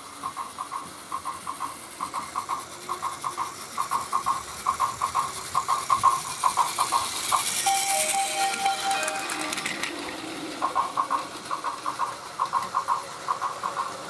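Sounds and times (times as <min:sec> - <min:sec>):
toy train clicking on plastic track: 0:00.0 - 0:14.0.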